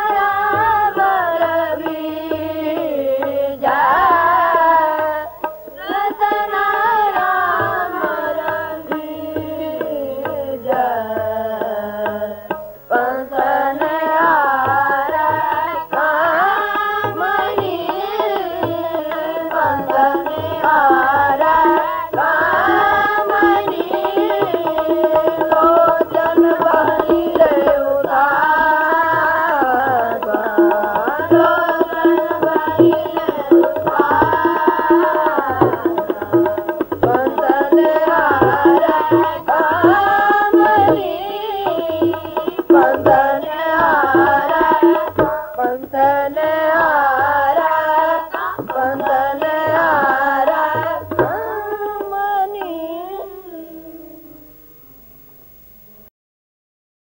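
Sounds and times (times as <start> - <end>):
children singing a hymn: 0.0 - 36.0, 37.1 - 52.2
tabla rhythm: 0.0 - 55.8
harmonium: 0.0 - 56.1.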